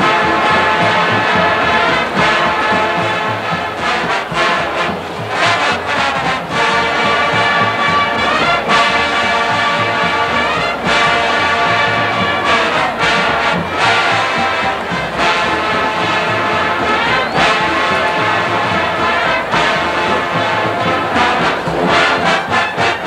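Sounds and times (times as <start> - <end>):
marching band playing: 0.0 - 23.0.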